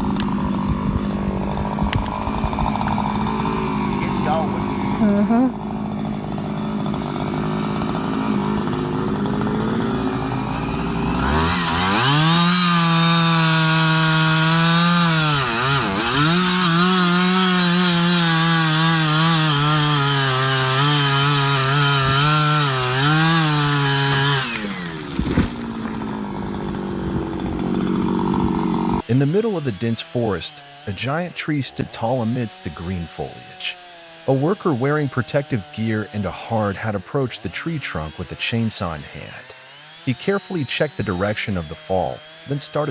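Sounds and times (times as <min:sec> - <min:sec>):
chainsaw cutting wood: 0:00.0 - 0:42.9
chainsaw idling and revving: 0:00.0 - 0:42.9.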